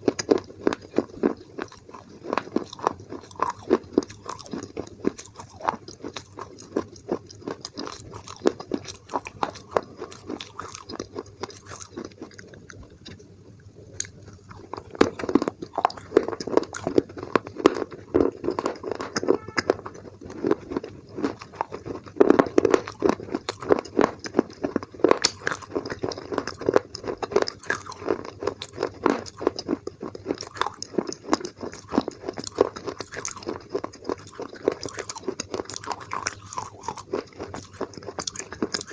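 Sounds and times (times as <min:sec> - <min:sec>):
crunching and chewing clay: 0:00.0 - 0:38.9.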